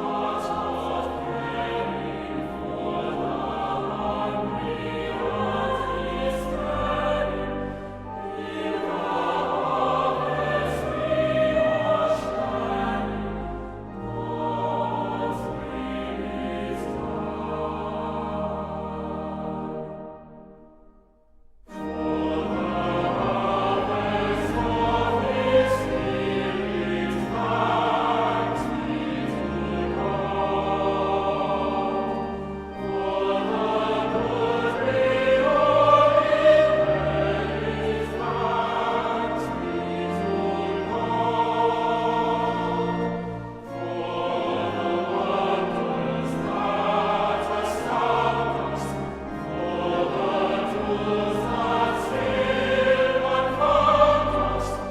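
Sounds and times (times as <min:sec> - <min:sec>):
choir singing a hymn: 0:00.0 - 0:20.7, 0:21.7 - 0:54.9
instrumental accompaniment: 0:00.0 - 0:54.9.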